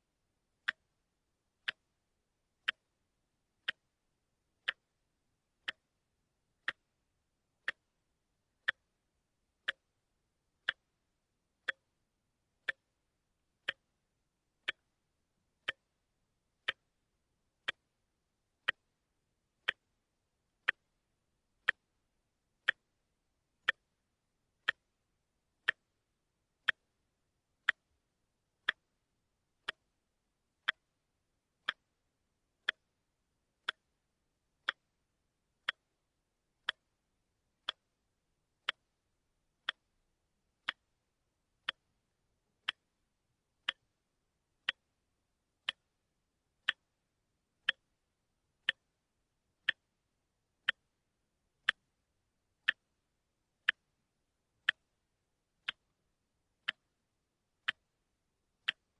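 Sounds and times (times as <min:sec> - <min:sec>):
watch ticking: 0:00.5 - 0:31.0, 0:31.6 - 0:58.9.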